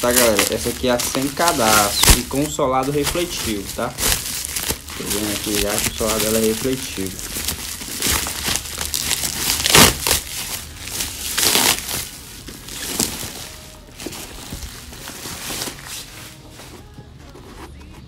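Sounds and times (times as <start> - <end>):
plastic packaging crinkling: 0.0 - 17.3.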